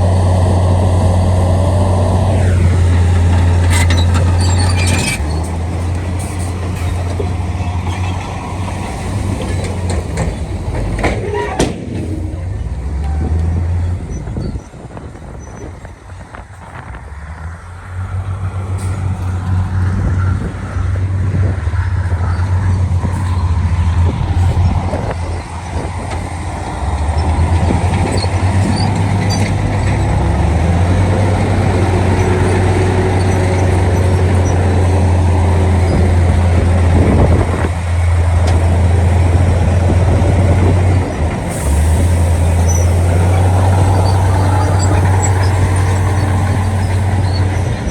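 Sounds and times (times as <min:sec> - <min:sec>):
heavy machinery diesel engine droning: 0:00.0 - 0:47.9.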